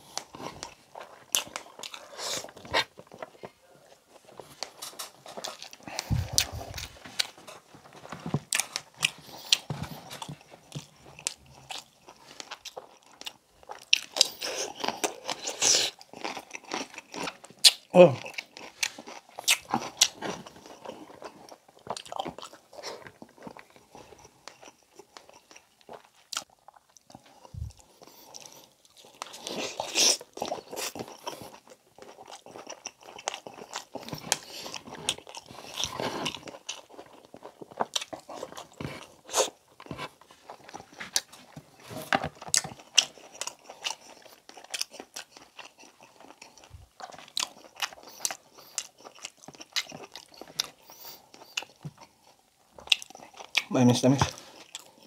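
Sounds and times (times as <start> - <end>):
wet chewing and mouth smacks: 0.1 - 3.4, 4.6 - 7.6, 8.5 - 55.0.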